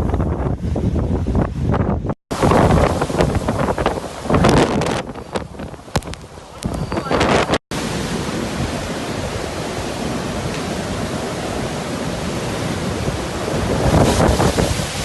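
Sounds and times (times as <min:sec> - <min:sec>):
wind rushing: 0:00.0 - 0:15.0.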